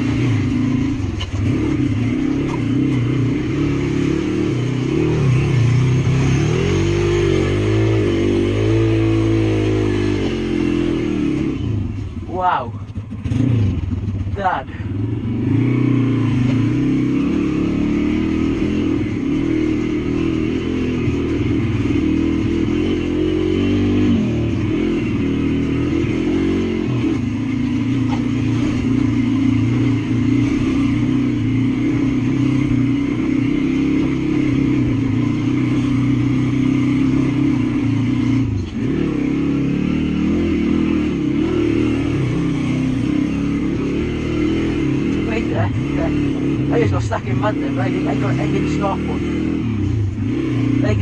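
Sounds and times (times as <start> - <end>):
motorbike engine running: 0.0 - 51.0.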